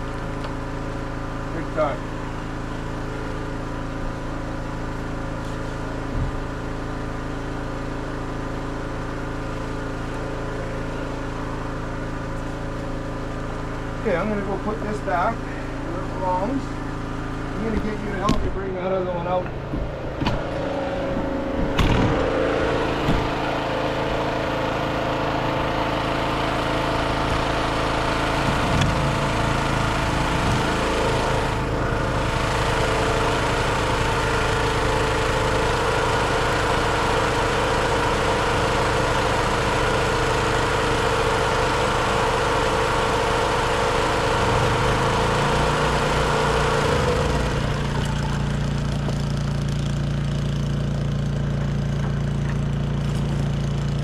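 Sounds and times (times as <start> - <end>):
generator engine running: 0.0 - 54.0.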